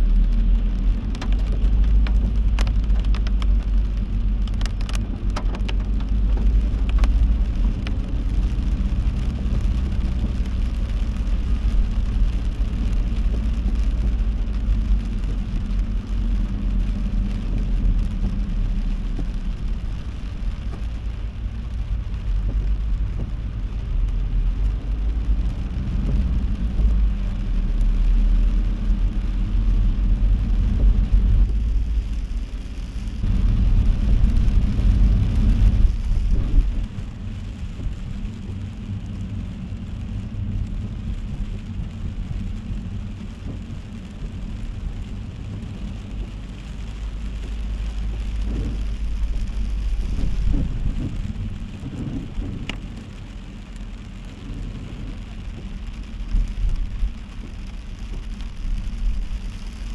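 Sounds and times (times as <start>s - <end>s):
car engine and tyres rumbling: 0.0s - 59.9s
rain and spray hissing: 0.0s - 59.9s.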